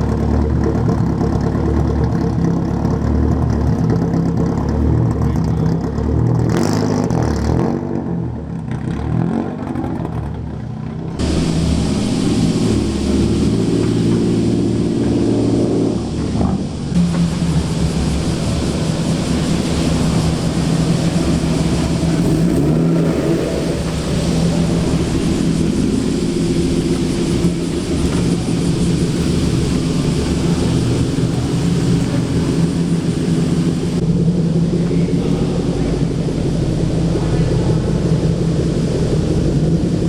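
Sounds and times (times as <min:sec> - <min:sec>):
car engine running at low revs: 0:00.0 - 0:40.0.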